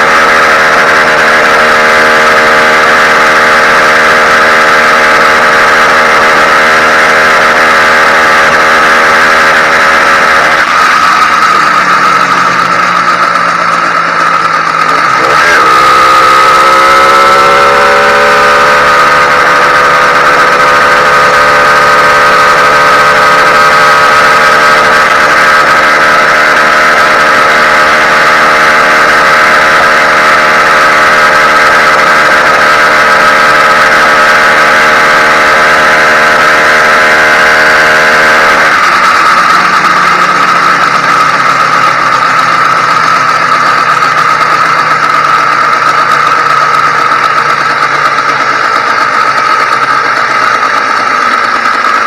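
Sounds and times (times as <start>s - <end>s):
two-stroke bicycle engine running: 0.0s - 52.0s.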